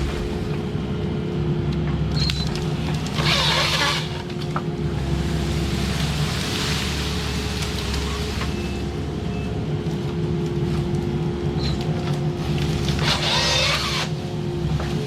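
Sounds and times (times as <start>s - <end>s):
diesel engine running under work: 0.0s - 15.0s.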